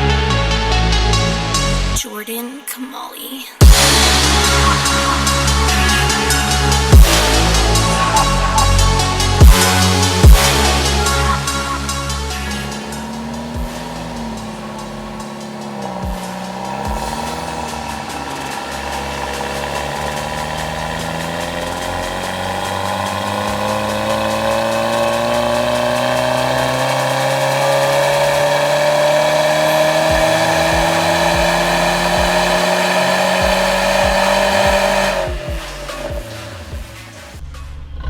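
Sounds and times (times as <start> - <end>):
turbocharged engine revving at full throttle: 3.6 - 37.4.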